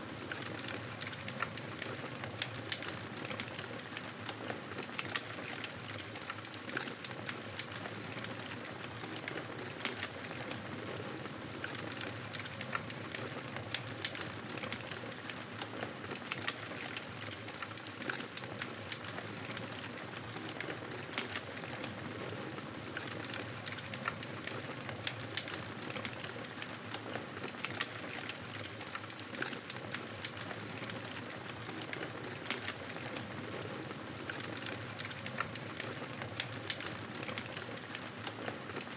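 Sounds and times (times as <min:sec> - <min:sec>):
fire crackling: 0:05.0 - 0:38.9.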